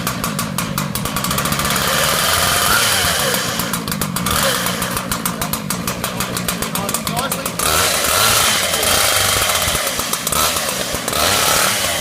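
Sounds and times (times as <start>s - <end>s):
concrete chainsaw engine running: 0.0s - 12.0s.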